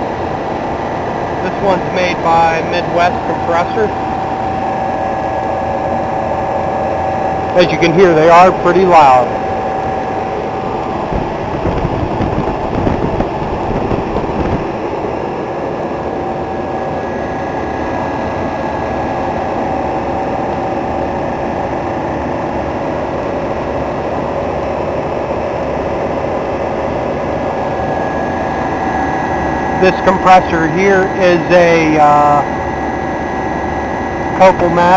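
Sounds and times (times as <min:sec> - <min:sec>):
refrigeration compressors humming: 0:00.0 - 0:34.9.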